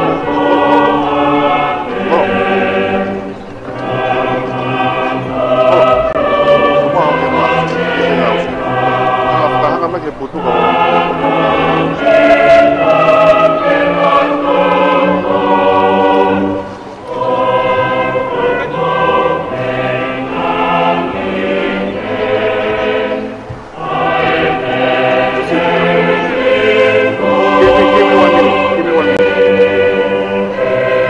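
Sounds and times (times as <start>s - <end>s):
group singing a hymn: 0.0s - 31.0s.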